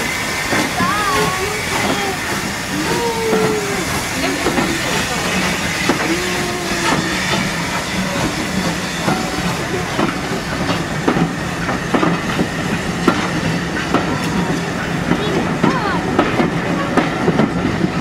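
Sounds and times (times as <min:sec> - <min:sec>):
train coaches rolling past: 0:00.0 - 0:18.0.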